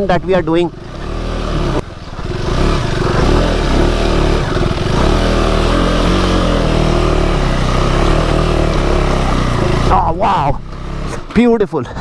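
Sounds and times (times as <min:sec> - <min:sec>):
motorcycle engine revving: 0:00.0 - 0:11.6.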